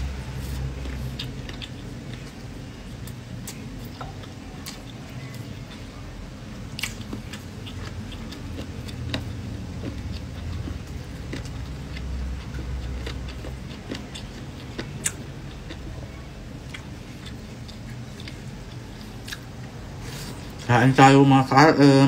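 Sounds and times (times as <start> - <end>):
man chewing and eating: 0.0 - 21.2
steady low hum: 0.0 - 22.0.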